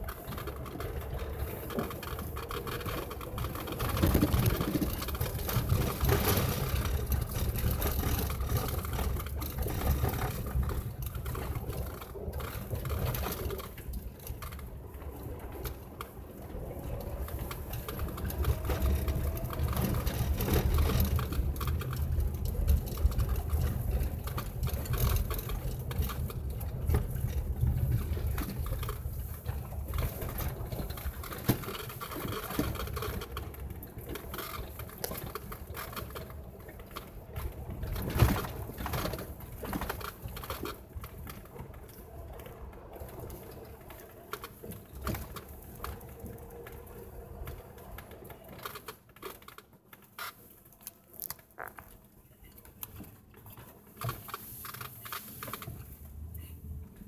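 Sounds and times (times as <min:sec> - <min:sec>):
clicks and rattles: 0:00.0 - 0:56.0
road and engine rumble: 0:00.0 - 0:57.0.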